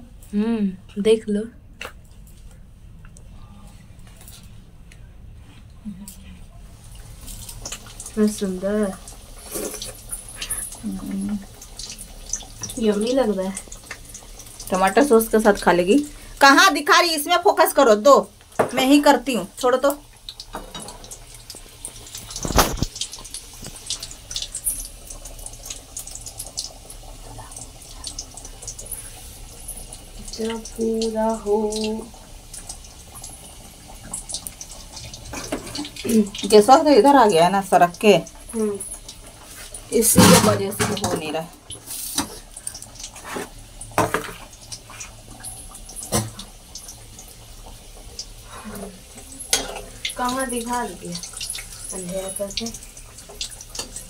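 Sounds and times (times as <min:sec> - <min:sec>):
food sizzling in hot oil: 0:06.7 - 0:54.0.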